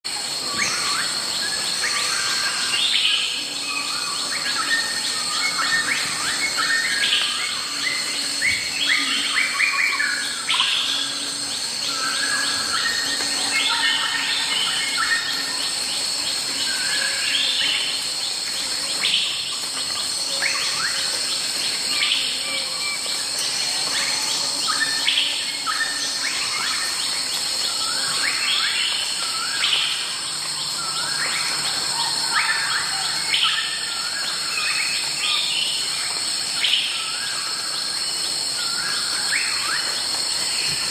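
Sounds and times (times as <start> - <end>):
high-pitched insect chorus: 0.1 - 40.9
birds calling with falling notes: 0.3 - 40.9.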